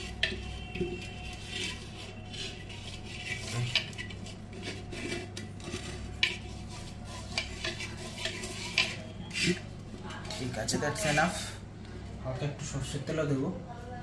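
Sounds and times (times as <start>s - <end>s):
hand rubbing clay pot: 0.0s - 11.4s.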